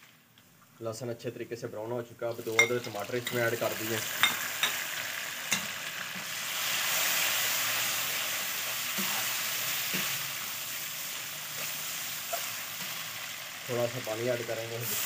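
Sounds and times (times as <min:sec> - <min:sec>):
food sizzling in hot oil: 0:02.2 - 0:15.0.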